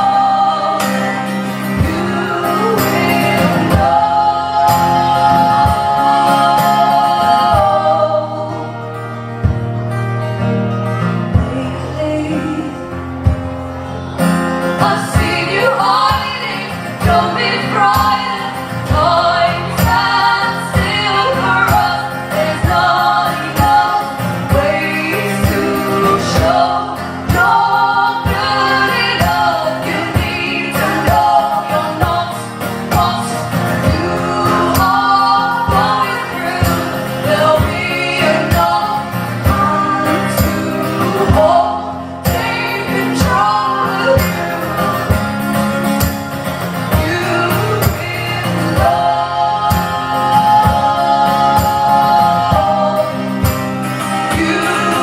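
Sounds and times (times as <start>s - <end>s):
women singing: 0.0s - 8.9s, 11.3s - 13.4s, 14.3s - 55.0s
strummed acoustic guitar: 0.0s - 55.0s.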